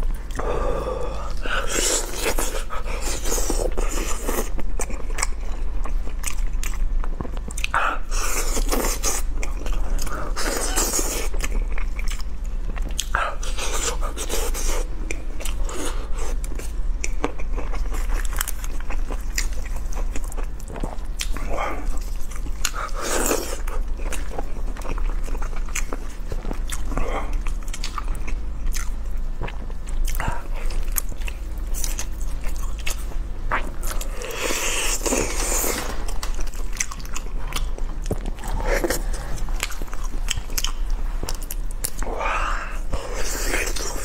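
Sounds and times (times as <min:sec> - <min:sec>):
biting and chewing food: 0:01.2 - 0:44.0.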